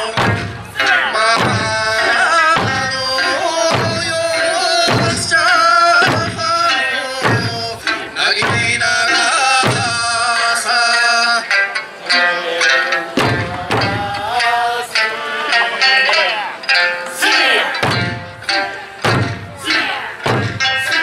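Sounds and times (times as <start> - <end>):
drum strikes: 0.0 - 15.1, 15.8 - 21.0
person singing: 0.0 - 17.9.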